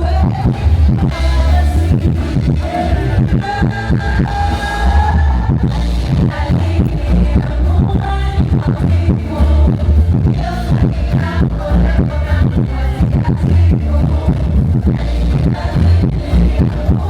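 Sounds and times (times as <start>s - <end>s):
music with pulsing bass beat: 0.0s - 17.0s
person singing: 0.0s - 17.0s.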